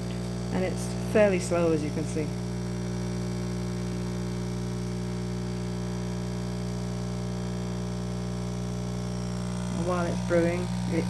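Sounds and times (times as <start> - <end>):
coffee machine humming: 0.0 - 11.0.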